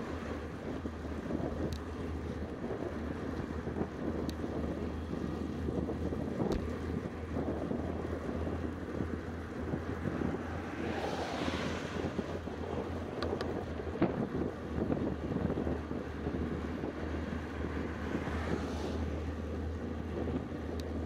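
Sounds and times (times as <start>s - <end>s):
vehicle tyres rushing past: 0.0s - 21.0s
wind buffeting microphone: 0.0s - 21.0s.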